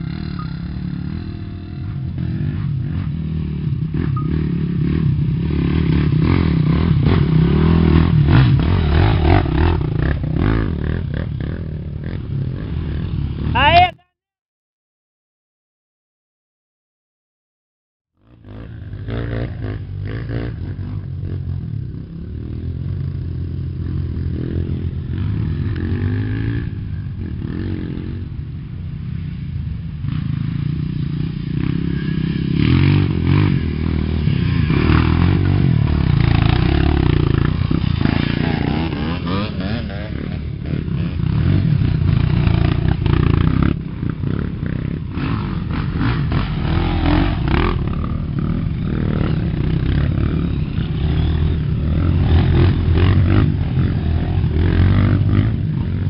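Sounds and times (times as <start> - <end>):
dirt bike engines revving: 0.0 - 14.0, 18.3 - 56.0.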